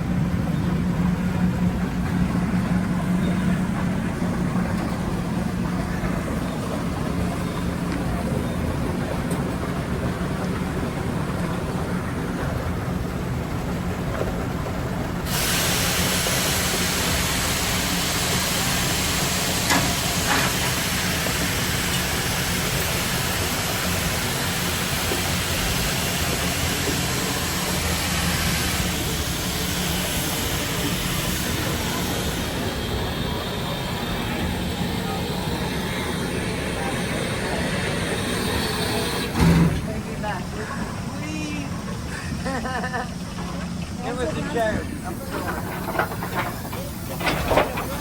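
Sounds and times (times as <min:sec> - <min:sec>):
steam locomotive hissing steam: 0:00.0 - 0:48.0.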